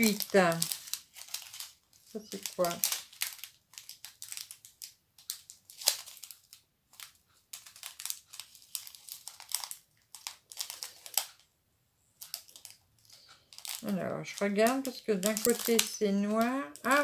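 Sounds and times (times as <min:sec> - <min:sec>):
plastic packets crinkling: 0:00.0 - 0:11.5, 0:12.2 - 0:17.0.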